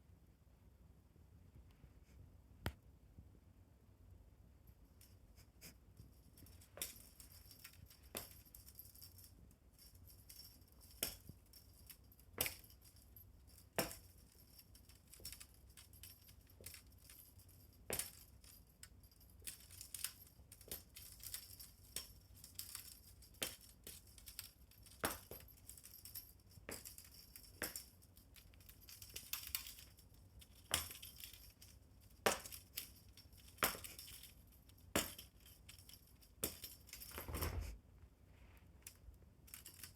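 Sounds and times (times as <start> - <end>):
faint low hum: 0.0 - 39.9
pet toy jingling and clicking: 6.1 - 37.6, 38.9 - 39.9.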